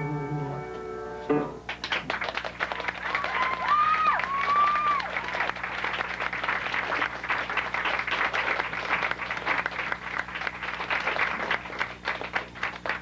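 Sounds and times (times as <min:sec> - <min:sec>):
audience applauding: 0:01.7 - 0:13.0.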